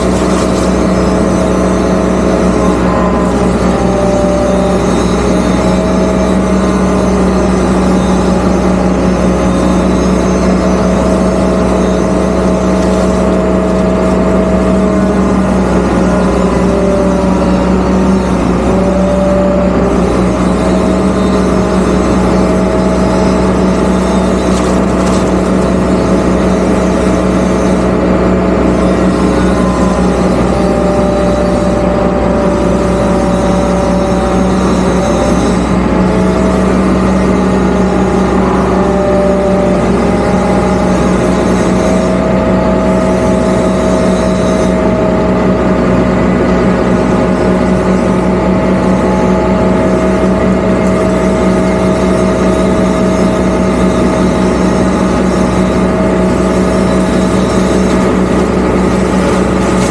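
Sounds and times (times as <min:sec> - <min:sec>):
excavator diesel drone: 0:00.0 - 0:59.9
hydraulic whine: 0:00.0 - 0:59.9.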